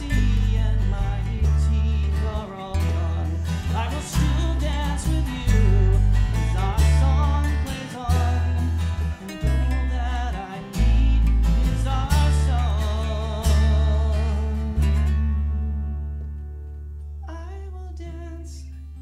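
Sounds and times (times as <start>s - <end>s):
man singing: 0.0s - 16.1s, 17.2s - 19.0s
mandolin: 0.0s - 17.2s
electric bass notes: 0.0s - 19.0s
strummed acoustic guitar: 0.0s - 19.0s.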